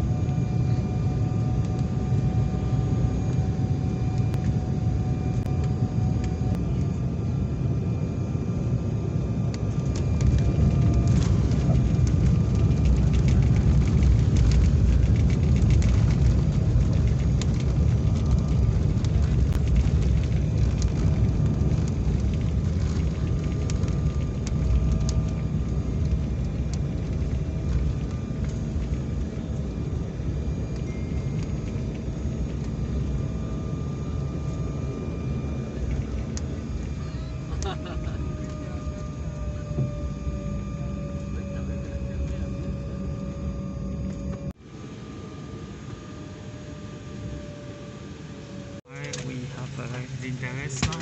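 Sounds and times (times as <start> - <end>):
plane rumbling on runway: 0.0 - 51.0.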